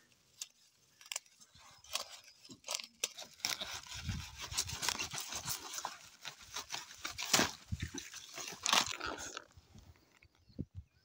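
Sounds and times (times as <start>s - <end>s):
stems snapping and leaves rustling: 0.3s - 9.5s.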